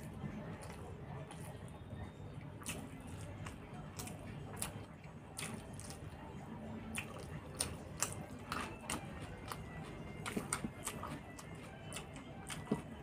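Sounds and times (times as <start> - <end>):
wet chewing and squishing: 0.0 - 13.0.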